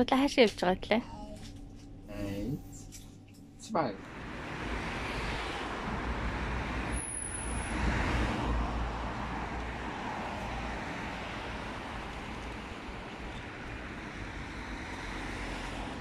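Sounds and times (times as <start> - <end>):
cars driving past: 2.0 - 16.0.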